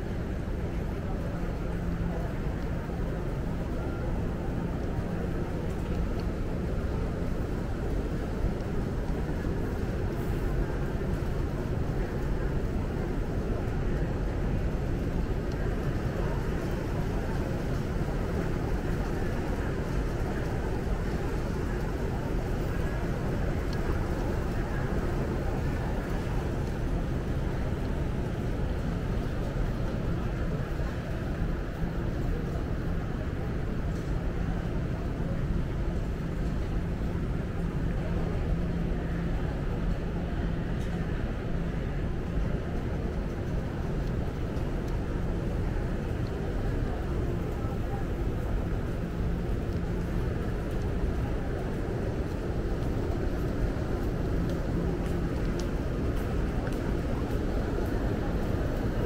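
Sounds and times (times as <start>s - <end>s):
murmur of distant people: 0.0s - 59.0s
train station concourse rumble: 0.0s - 59.0s.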